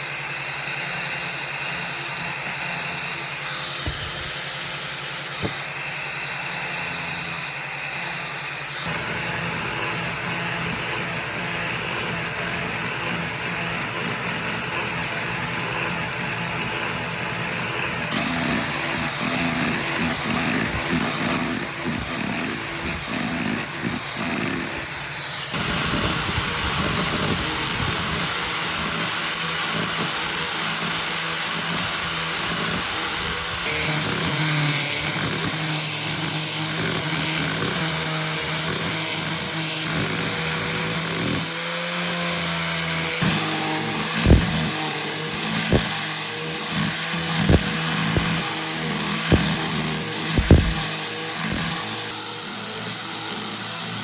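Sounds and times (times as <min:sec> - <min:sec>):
power tools cutting wood: 0:00.0 - 0:54.0.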